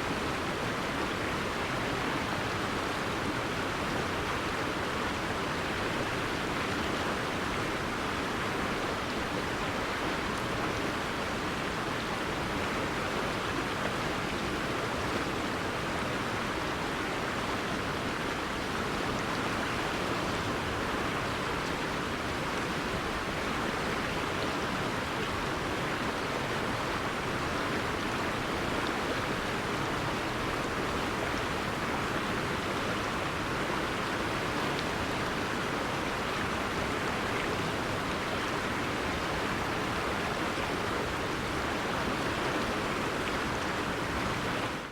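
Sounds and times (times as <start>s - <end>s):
flowing river rushing: 0.0s - 44.9s.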